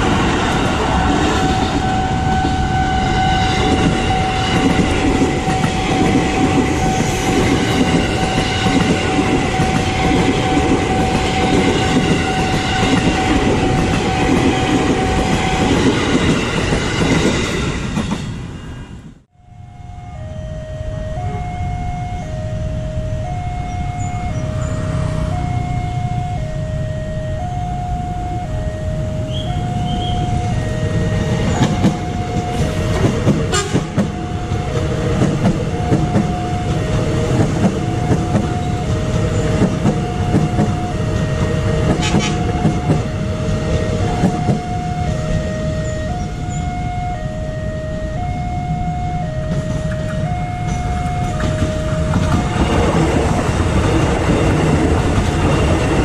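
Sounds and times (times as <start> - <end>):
two-tone crossing warning bell: 0.0 - 18.2, 19.4 - 56.0
train rumble and wheel clatter: 0.0 - 19.3, 21.0 - 56.0.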